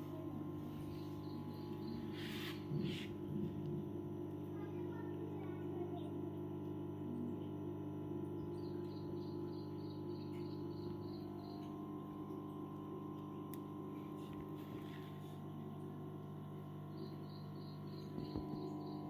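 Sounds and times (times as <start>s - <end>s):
low hum of held tones: 0.0s - 19.0s.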